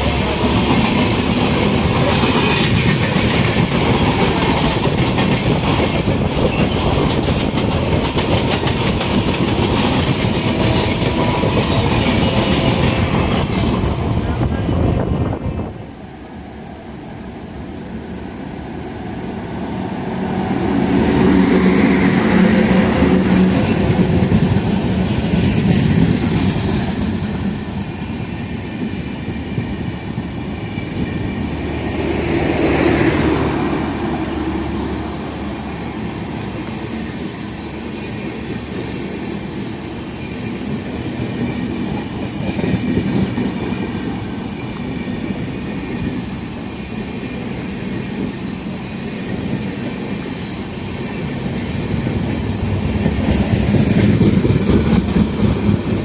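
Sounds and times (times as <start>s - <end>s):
train wheels clattering on rails: 0.0s - 15.8s, 20.4s - 56.0s.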